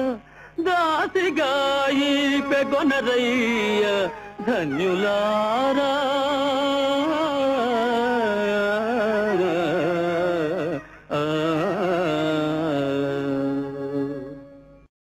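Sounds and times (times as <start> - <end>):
man singing melismatic passage: 0.0 - 14.9.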